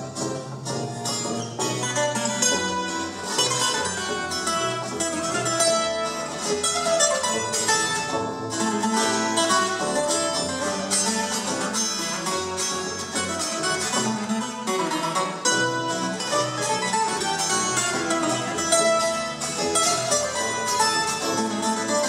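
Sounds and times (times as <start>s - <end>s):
double bass line: 0.0s - 22.0s
plucked and strummed strings: 0.0s - 22.0s.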